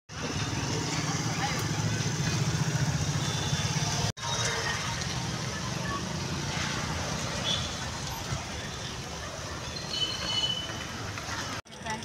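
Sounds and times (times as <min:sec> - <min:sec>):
traffic background: 0:00.1 - 0:12.0.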